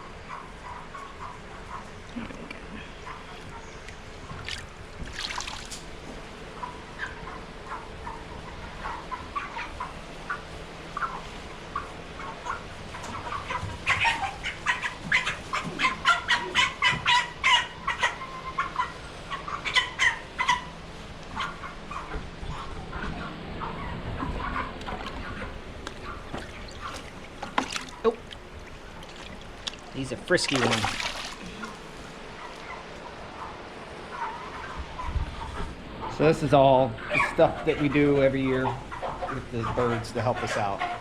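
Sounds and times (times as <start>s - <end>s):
chickens clucking and squawking: 0.0s - 41.0s.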